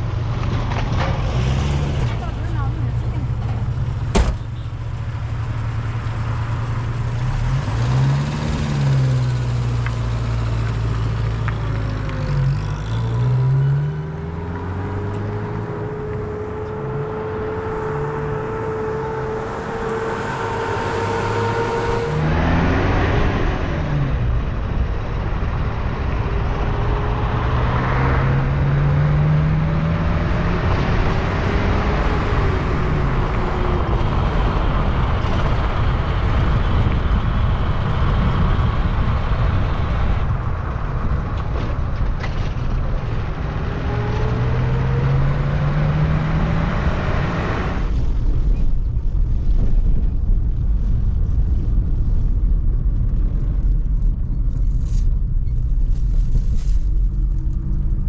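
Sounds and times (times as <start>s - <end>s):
vehicle engine accelerating: 0.0s - 4.1s, 5.0s - 58.0s
road noise: 0.0s - 58.0s.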